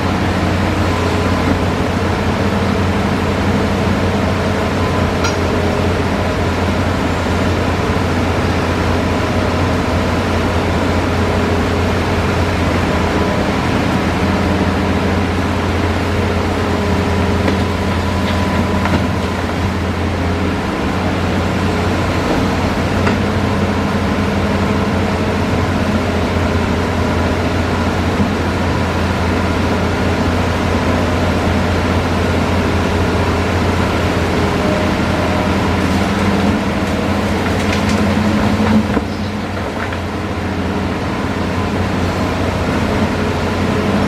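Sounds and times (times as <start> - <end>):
excavator diesel engine droning: 0.0 - 44.0.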